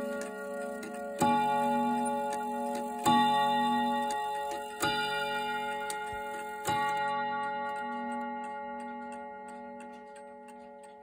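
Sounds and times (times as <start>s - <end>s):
clock chime on gong rods: 0.0s - 11.0s
clock ticking: 0.0s - 11.0s.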